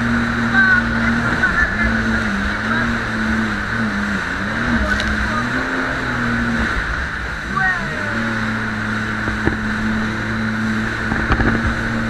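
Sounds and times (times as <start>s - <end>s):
jet ski engine running: 0.0s - 12.0s
rushing water: 0.0s - 12.0s
wind: 0.0s - 12.0s.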